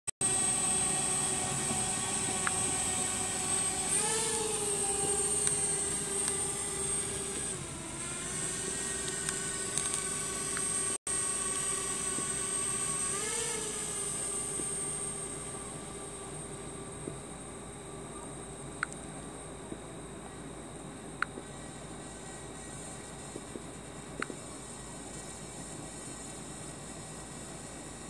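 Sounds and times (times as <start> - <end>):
drone motors whining: 0.2 - 28.0.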